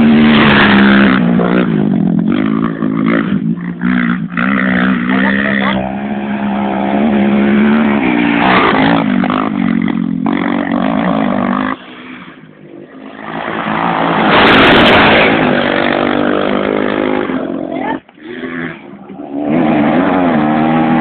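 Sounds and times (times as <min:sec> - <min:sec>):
race vehicle engines droning: 0:00.0 - 0:21.0
vehicle passing close: 0:00.0 - 0:21.0.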